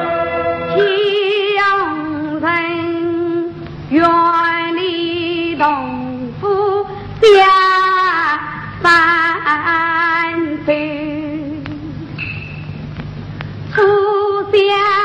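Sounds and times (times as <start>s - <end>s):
woman singing opera: 0.7s - 12.1s, 13.8s - 15.0s.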